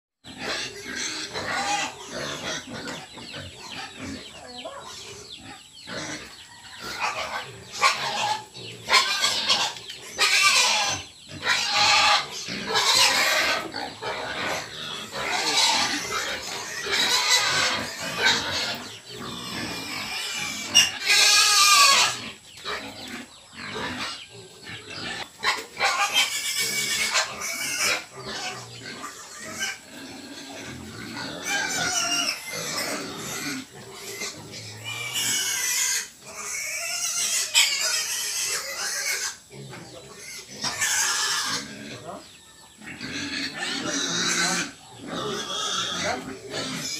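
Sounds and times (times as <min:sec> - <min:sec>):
piglets squealing: 0:00.2 - 0:46.9.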